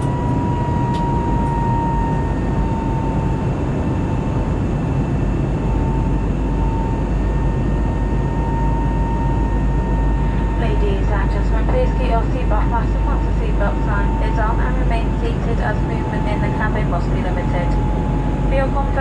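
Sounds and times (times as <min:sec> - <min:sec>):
airflow and jet engine noise: 0:00.0 - 0:19.0
thin steady whine: 0:00.0 - 0:19.0.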